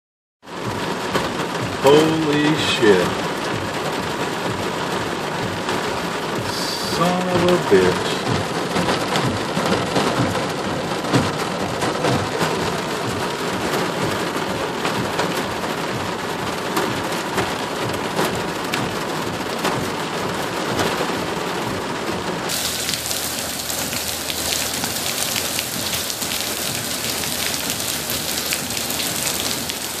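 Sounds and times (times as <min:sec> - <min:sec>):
heavy rain on car roof: 0:00.4 - 0:30.0.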